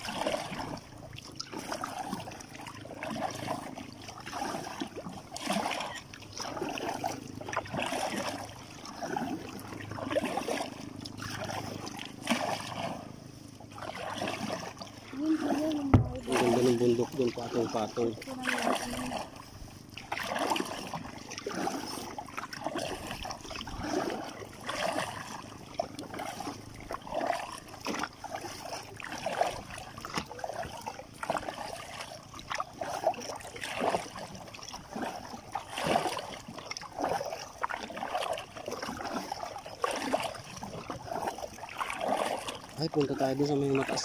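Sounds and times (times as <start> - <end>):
kayak paddle splashing in water: 0.0 - 44.0.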